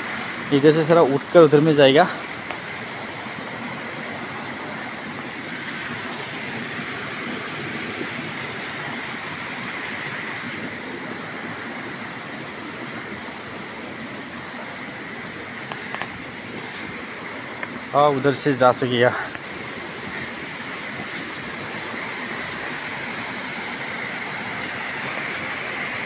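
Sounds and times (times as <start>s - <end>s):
water rushing over rocks: 0.0s - 26.0s.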